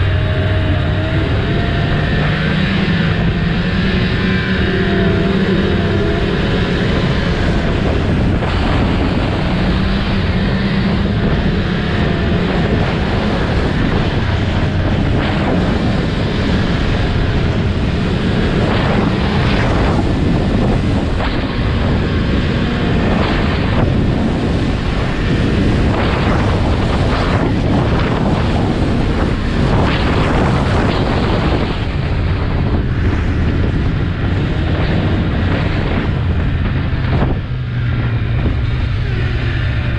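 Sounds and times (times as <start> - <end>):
snowmobile engine running: 0.0 - 39.9
wind buffeting microphone: 0.0 - 39.9.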